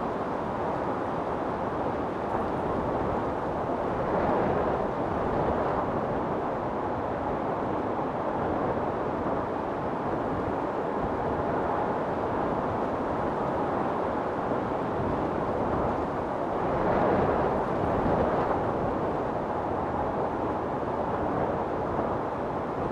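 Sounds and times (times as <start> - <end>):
storm wind blowing hard: 0.0 - 22.9.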